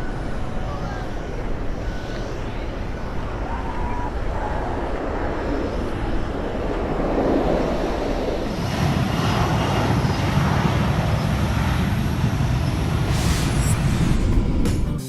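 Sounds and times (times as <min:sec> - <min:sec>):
jet aircraft passing overhead: 0:00.0 - 0:15.0.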